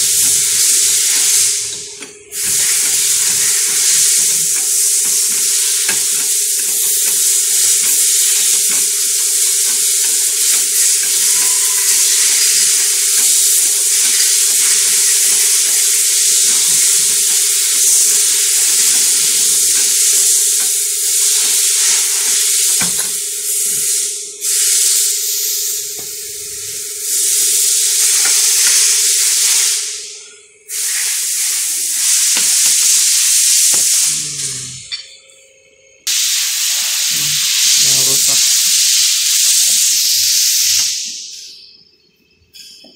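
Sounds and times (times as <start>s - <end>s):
shop press hissing: 0.0s - 42.9s
steady hum: 0.0s - 42.9s.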